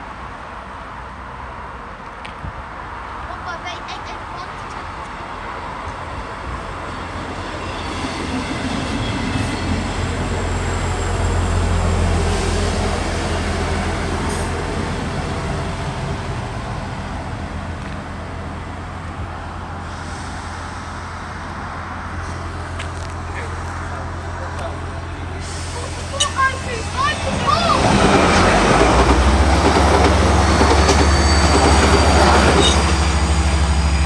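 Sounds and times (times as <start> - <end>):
train wheels rumbling on rails: 4.4 - 34.0.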